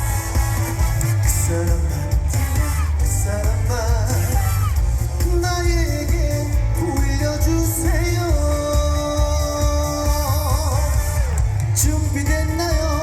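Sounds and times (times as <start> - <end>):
band with heavy bass beat: 0.0 - 13.0
man singing: 0.0 - 13.0.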